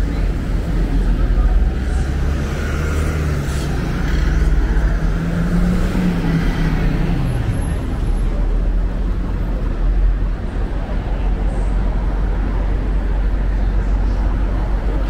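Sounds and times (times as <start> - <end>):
traffic rumble: 0.0 - 15.0
vehicle engine: 0.0 - 15.0.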